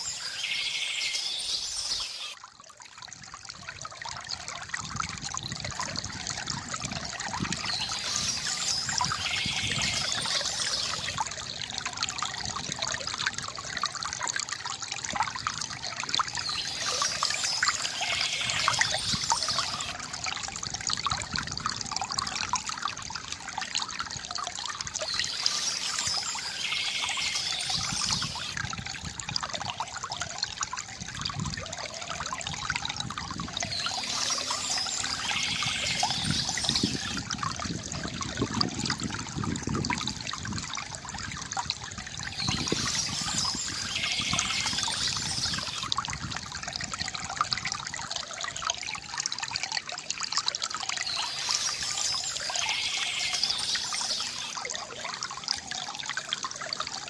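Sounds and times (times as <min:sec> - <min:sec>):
water trickling from fountain: 0:00.0 - 0:57.0.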